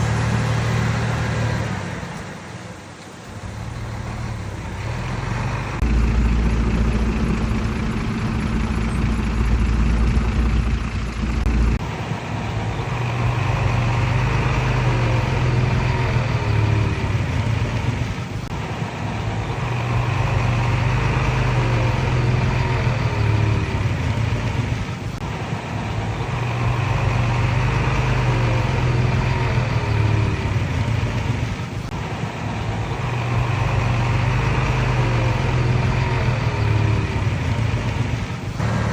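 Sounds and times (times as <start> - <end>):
bulldozer diesel engine working: 0.0 - 38.9.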